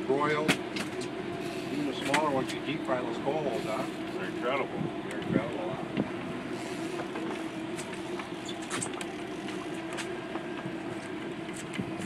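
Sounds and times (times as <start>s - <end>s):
boat engine droning: 0.0s - 12.0s
wind and water noise: 0.0s - 12.0s.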